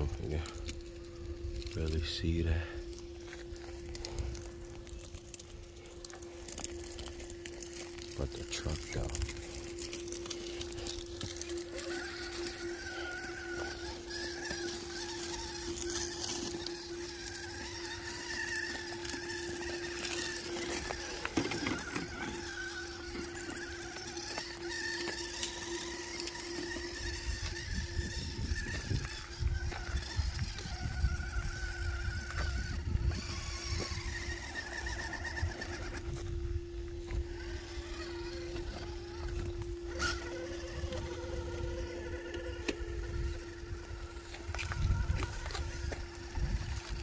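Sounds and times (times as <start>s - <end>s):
tyres crunching on loose rock: 0.0s - 36.4s, 37.0s - 47.0s
electric motor whine: 0.0s - 47.0s.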